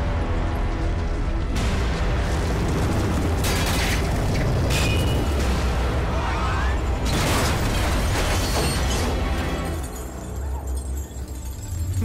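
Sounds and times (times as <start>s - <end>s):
crashes and explosions: 0.0s - 12.0s.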